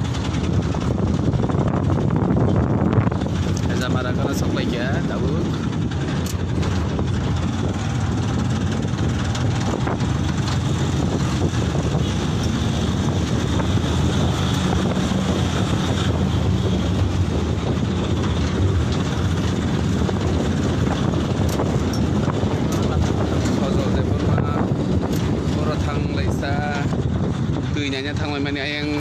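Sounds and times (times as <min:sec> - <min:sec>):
road rumble: 0:00.0 - 0:29.0
truck engine drone: 0:00.0 - 0:29.0
wind buffeting microphone: 0:00.0 - 0:29.0.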